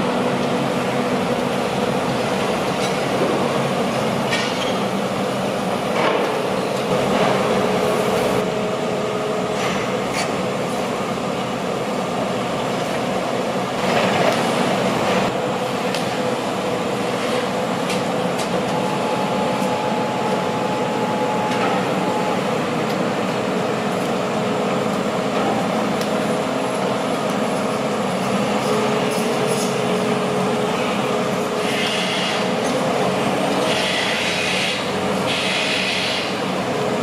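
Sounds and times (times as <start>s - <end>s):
drill rig machinery drone: 0.0s - 37.0s.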